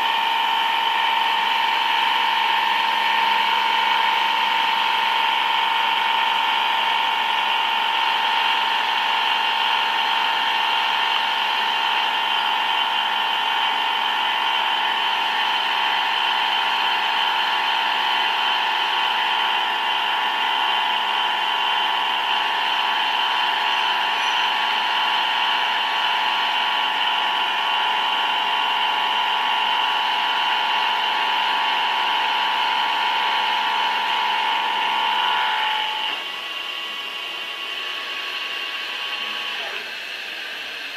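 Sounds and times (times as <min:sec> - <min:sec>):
metal-cutting lathe whining: 0:00.0 - 0:40.9.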